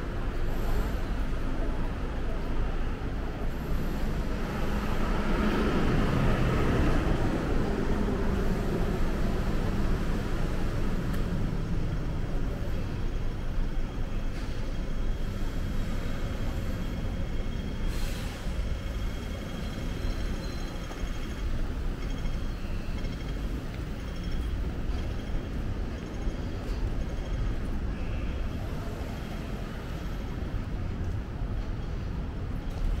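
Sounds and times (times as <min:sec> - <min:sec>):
passing traffic rumble: 0:00.0 - 0:33.0.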